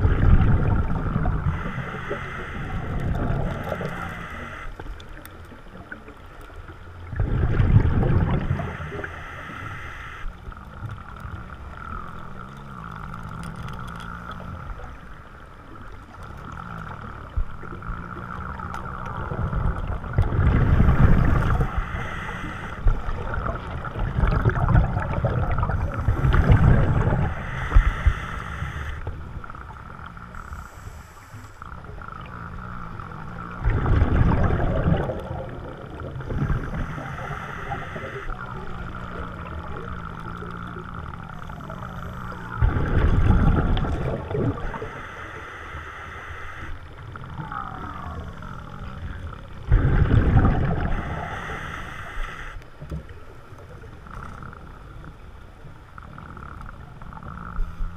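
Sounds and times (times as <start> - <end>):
gurgling exhaled bubbles: 0.0 - 15.1, 15.7 - 30.5, 31.7 - 45.3, 46.7 - 53.2.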